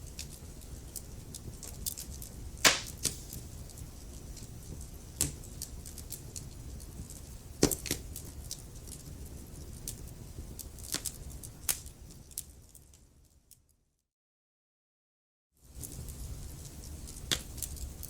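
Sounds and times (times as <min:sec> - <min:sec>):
fire crackles and pops: 0:00.0 - 0:13.6, 0:15.7 - 0:18.0
wood fire hissing: 0:00.2 - 0:12.6, 0:15.7 - 0:18.0.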